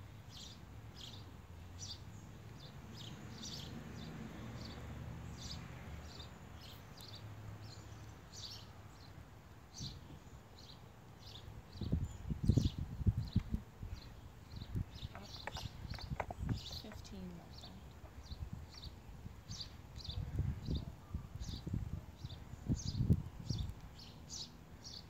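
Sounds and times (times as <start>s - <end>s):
bird chirping: 0.3s - 25.0s.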